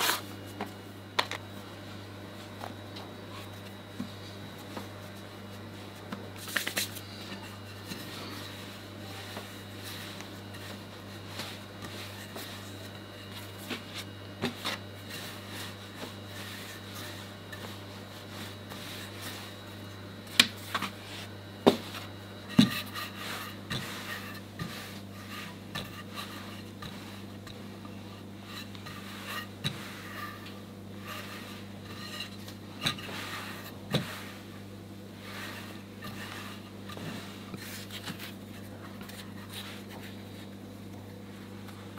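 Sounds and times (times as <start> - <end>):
rolling pin rubbing on dough: 0.0 - 0.8, 1.8 - 41.9.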